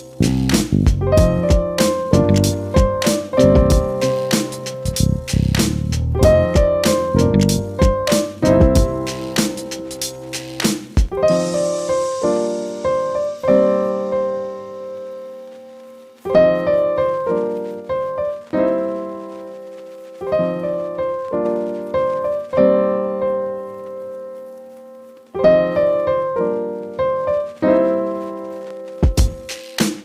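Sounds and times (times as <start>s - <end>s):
slow piano chords: 0.0s - 29.6s.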